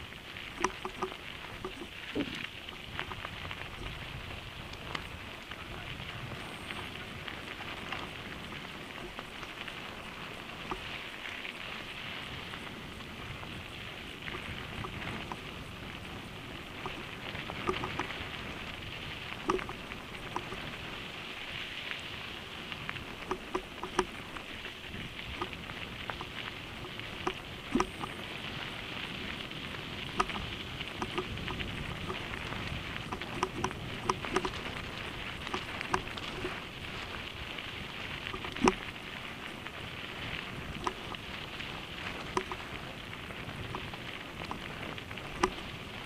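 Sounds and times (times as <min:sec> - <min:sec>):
bike tyres crunching on gravel: 0:00.0 - 0:46.0.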